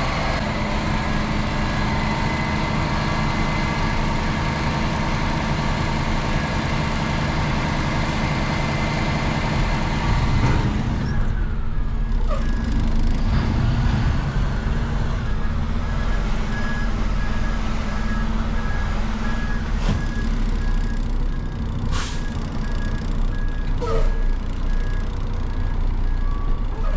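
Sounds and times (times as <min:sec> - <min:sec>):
truck engine running: 0:00.0 - 0:26.9.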